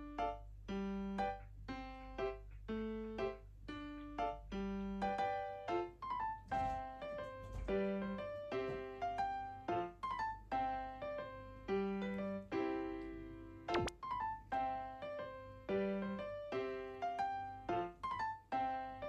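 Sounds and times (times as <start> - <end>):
light keyboard tune: 0.0 - 19.0.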